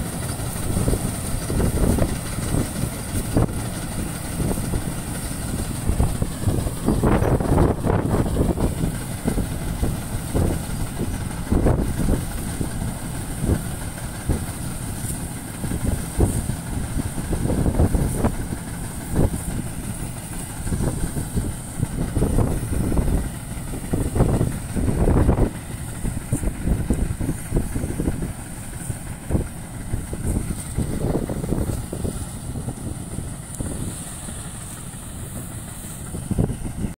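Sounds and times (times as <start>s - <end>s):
combine harvester rumbling: 0.0s - 36.9s.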